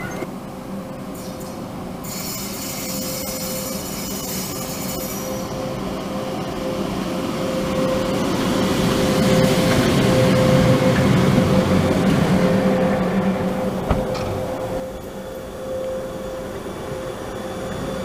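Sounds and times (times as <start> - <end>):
electric locomotive hum: 0.0 - 18.0.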